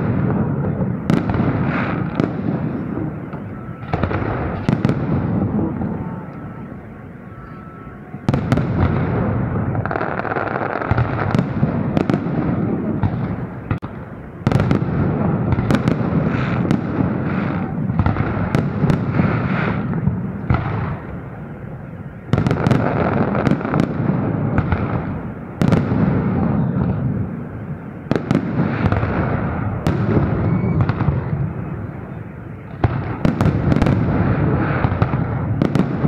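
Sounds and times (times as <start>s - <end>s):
continuous rumble: 0.0s - 36.0s
fireworks bangs: 0.0s - 36.0s.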